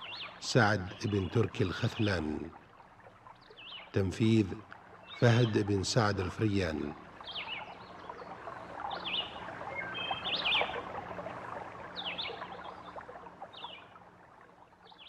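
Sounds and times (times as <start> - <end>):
birds chirping: 0.0 - 14.2.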